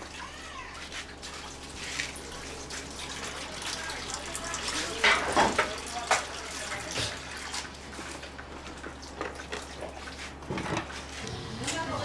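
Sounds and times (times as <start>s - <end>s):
water running from tap: 0.0s - 10.4s.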